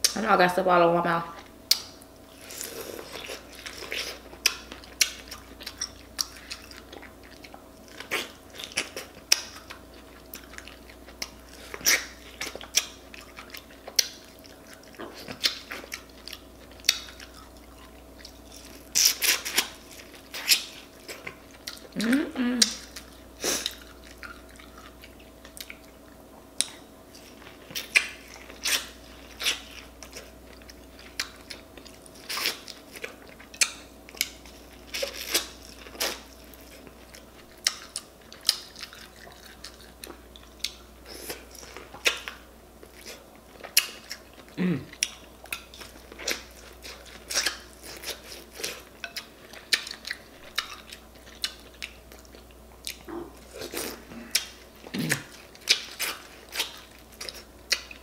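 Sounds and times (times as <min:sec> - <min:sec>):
chewing with mouth clicks: 0:01.4 - 0:58.0.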